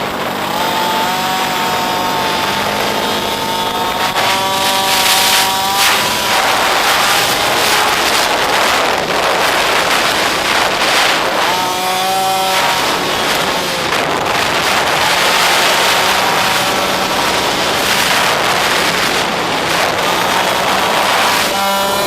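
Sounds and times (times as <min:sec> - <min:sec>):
small motorbike engine revving: 0:00.0 - 0:22.0.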